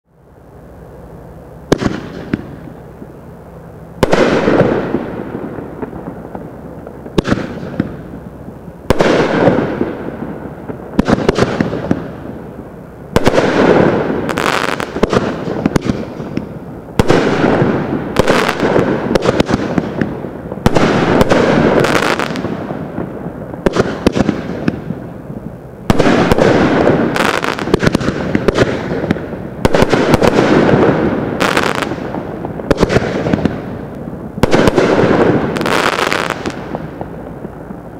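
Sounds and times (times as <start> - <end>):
fireworks crackling: 0.2 - 37.9
fireworks bangs: 1.6 - 3.2, 4.0 - 37.9.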